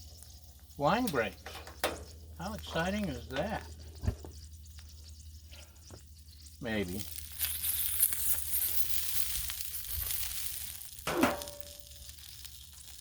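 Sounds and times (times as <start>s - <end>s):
dumplings sizzling in oil: 0.0s - 13.0s.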